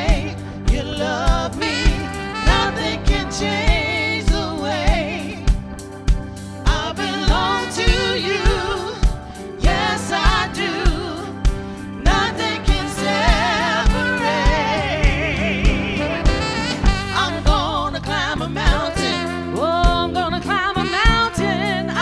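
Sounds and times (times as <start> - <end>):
women singing with vibrato: 0.0 - 5.6, 6.7 - 22.0
electric guitar: 0.0 - 22.0
saxophone: 0.0 - 22.0
kick drum beat: 0.1 - 17.8.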